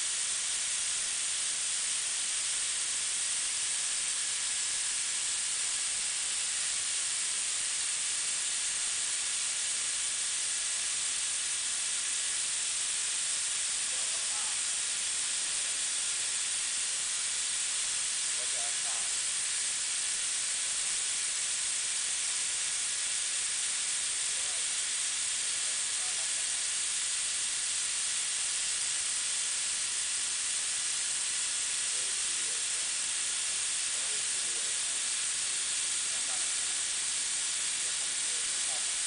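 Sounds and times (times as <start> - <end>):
grinding wheel hissing: 0.0 - 39.0.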